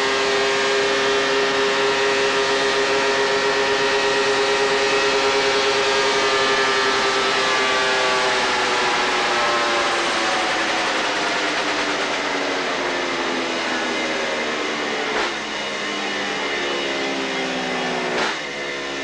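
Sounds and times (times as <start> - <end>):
motorcycle engine running under load: 0.0 - 19.0.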